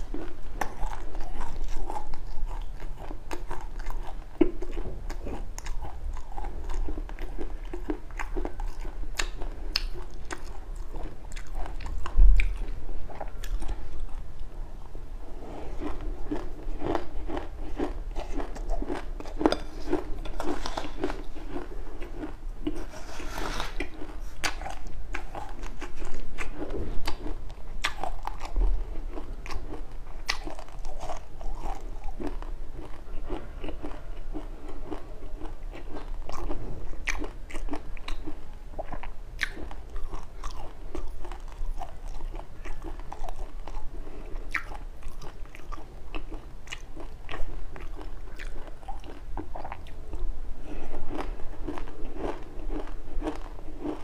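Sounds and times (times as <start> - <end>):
person chewing crunchy seeds: 0.0 - 14.5, 15.3 - 54.0.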